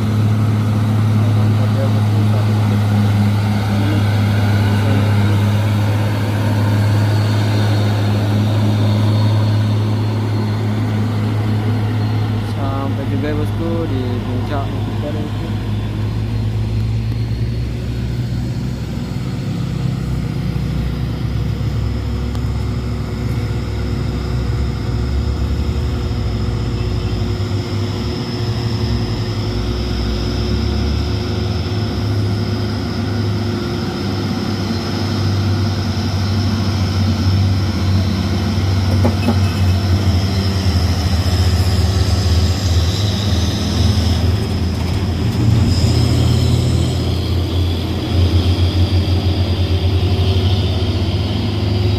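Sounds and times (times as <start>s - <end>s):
truck diesel engine droning: 0.0s - 51.9s.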